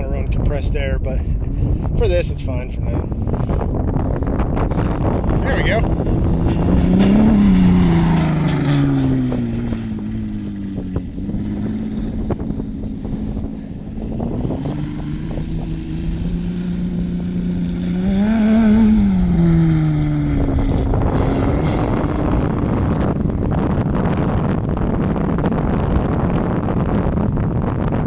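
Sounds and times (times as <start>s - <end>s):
dune buggy engine running: 0.0s - 28.0s.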